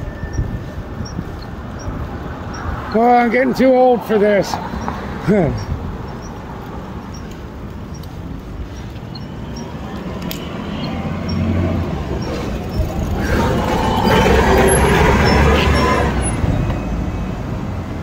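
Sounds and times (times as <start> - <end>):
bus engine rumble: 0.0 - 18.0
street traffic noise: 0.0 - 18.0.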